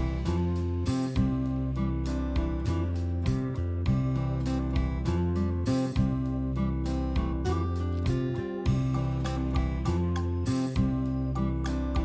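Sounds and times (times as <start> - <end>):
acoustic guitar music with beat: 0.0 - 12.0.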